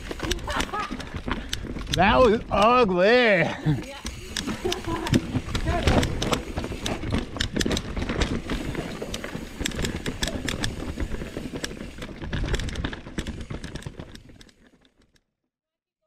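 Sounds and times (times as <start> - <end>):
tyre and wind noise: 0.0 - 14.7
bike clicks and rattles: 0.0 - 15.3.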